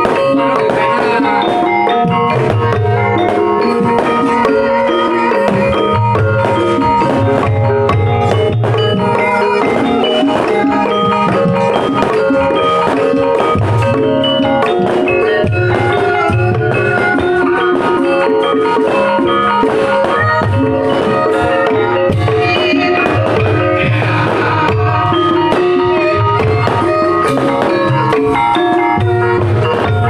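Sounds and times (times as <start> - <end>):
hand drum: 0.0 - 30.0
low drum beats: 0.0 - 30.0
metallophones and gongs ringing: 0.0 - 30.0.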